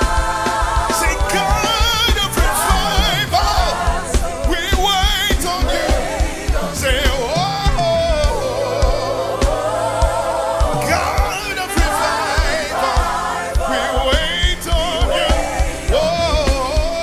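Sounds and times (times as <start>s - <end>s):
band with steady drum beat: 0.0s - 17.0s
voices singing held notes: 0.0s - 17.0s.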